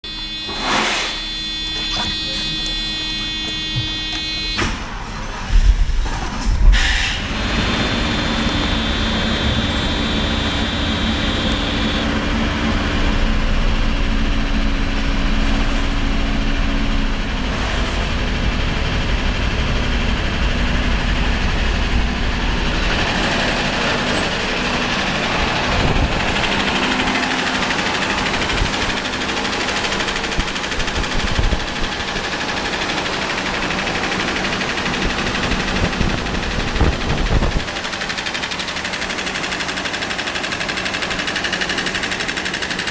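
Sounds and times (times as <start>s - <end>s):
car engine running: 1.2s - 5.0s, 7.3s - 42.9s.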